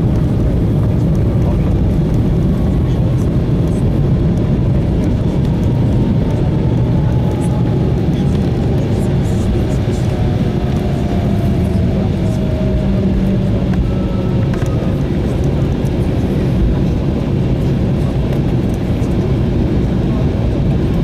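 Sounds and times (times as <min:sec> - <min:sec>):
airliner cabin rumble: 0:00.0 - 0:21.0
jet engine whine falling: 0:00.0 - 0:21.0.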